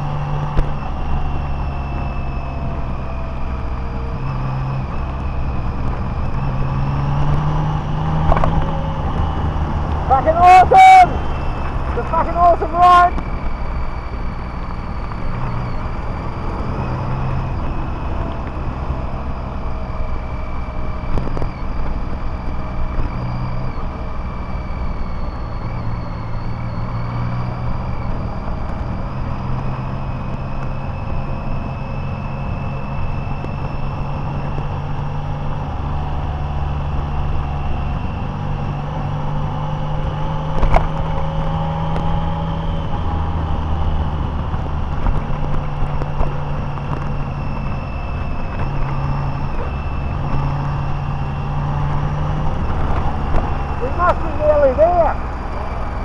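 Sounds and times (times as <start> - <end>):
car engine and road noise: 0.0 - 56.0
faint whine: 0.0 - 56.0.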